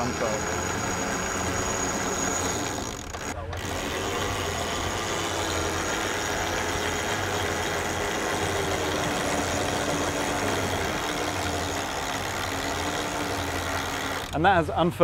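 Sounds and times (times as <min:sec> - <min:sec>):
engine drone: 0:00.0 - 0:14.5.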